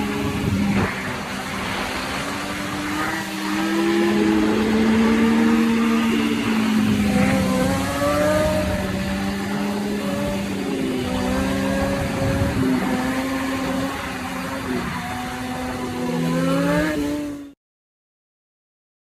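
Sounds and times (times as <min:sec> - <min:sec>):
sport bike engine revving: 0:00.0 - 0:17.6.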